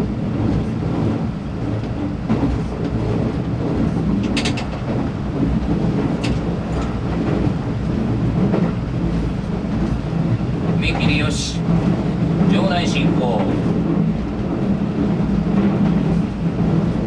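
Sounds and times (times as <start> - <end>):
train wheel and motor rumble: 0.0 - 17.0.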